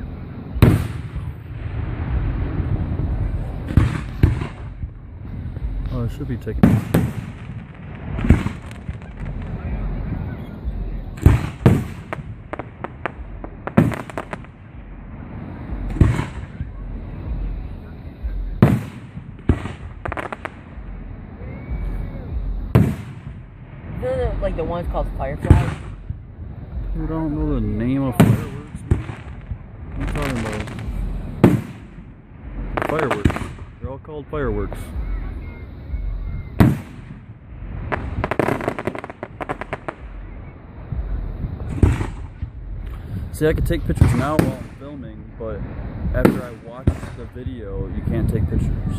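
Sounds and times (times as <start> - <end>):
firework booms: 0.0 - 48.9
firework crackles: 0.0 - 48.9.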